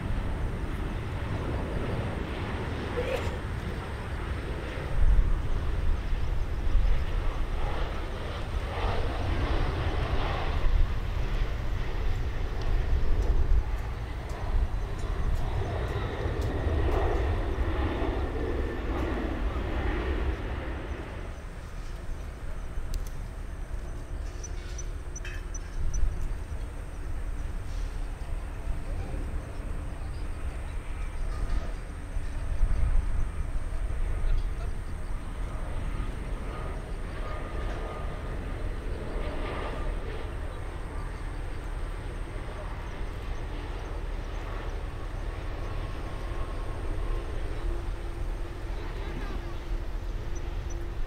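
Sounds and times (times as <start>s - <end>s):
faint jet engine whine: 0.0s - 51.0s
steady low rumble: 0.0s - 51.0s.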